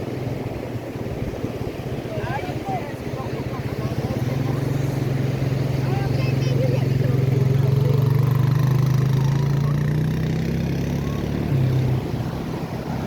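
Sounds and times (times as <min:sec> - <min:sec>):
motor engine humming: 0:00.1 - 0:13.0.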